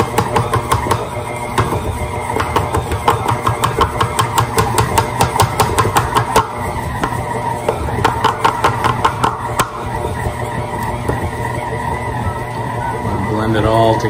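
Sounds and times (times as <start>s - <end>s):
stand mixer running: 0.0s - 14.0s.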